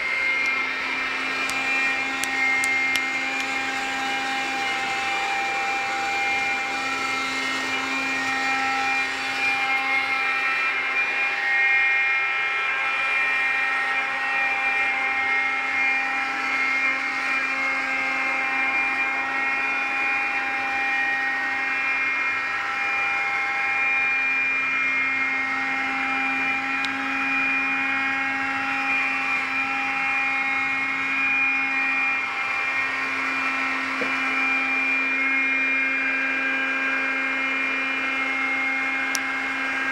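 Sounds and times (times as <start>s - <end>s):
floor-washing robot motors whining: 0.0s - 39.9s.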